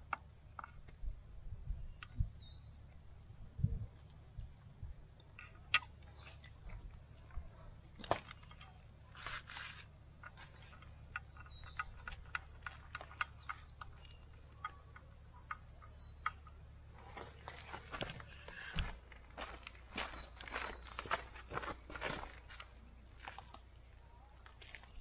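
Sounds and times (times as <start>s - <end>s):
bird chirping: 0.0s - 3.0s, 5.1s - 6.8s, 7.6s - 18.8s, 19.4s - 21.5s, 22.8s - 25.0s.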